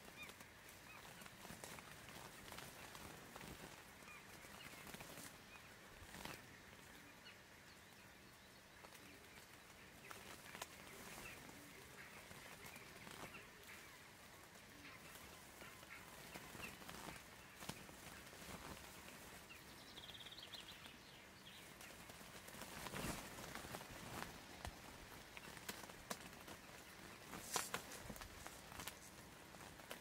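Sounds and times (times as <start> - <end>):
faint outdoor ambience: 0.0 - 30.0.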